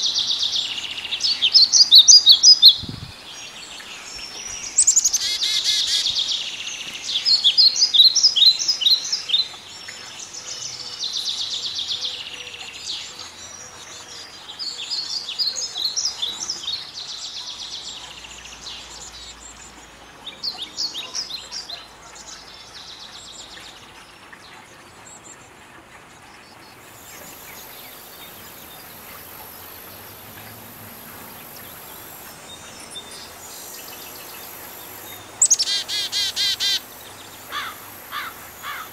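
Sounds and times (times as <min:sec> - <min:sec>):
small birds chirping: 0:00.0 - 0:25.6, 0:26.4 - 0:38.9.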